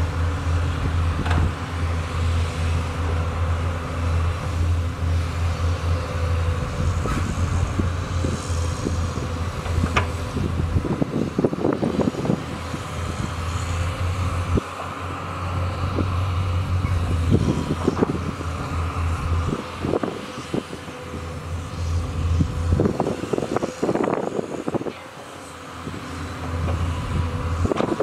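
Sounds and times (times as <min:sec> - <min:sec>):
excavator diesel engines: 0:00.0 - 0:28.0.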